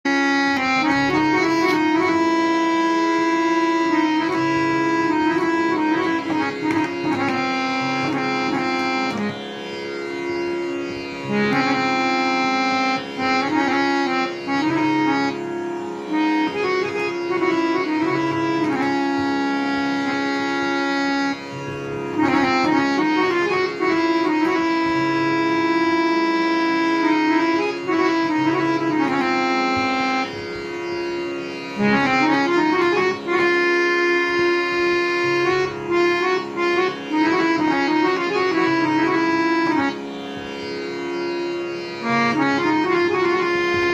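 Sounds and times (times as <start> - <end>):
harmonium melody over drone: 0.0 - 43.9.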